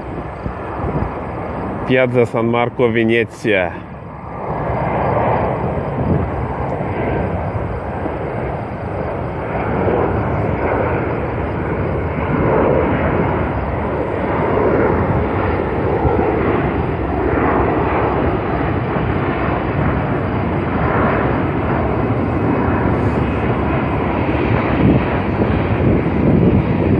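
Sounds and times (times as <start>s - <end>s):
jet engine rushing: 0.0s - 26.9s.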